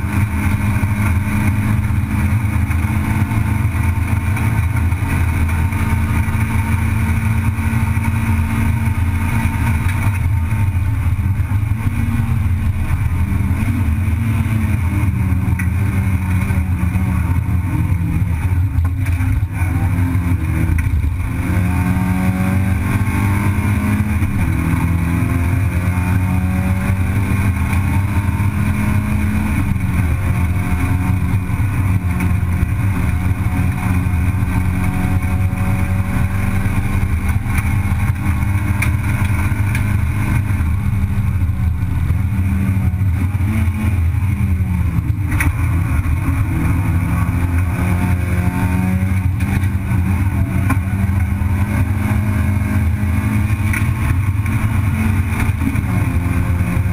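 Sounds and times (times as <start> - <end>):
race car engine at high revs: 0.0 - 56.9.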